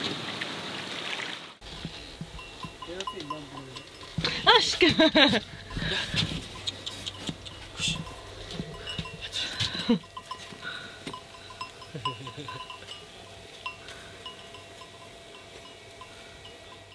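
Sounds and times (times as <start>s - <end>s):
goat bells clinking: 1.8s - 16.9s.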